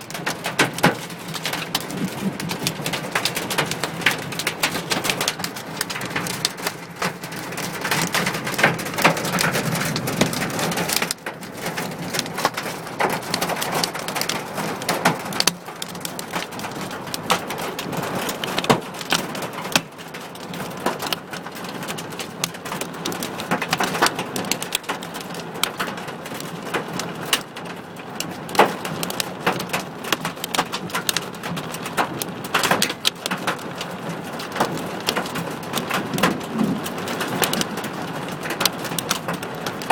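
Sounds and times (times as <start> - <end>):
hail and rain on a car: 0.0 - 39.9.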